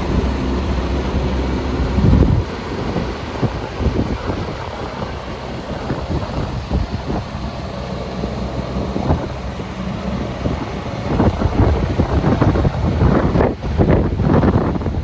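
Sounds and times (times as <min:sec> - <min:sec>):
excavator diesel engine running: 0:00.0 - 0:15.0
wind buffeting microphone: 0:00.0 - 0:15.0.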